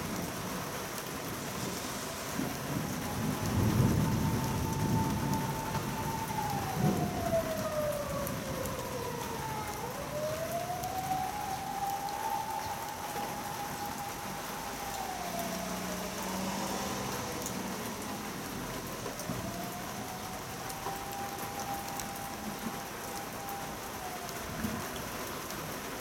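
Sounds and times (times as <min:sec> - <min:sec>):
distant siren wailing: 0:00.0 - 0:26.0
rain pattering on a pond: 0:00.0 - 0:26.0.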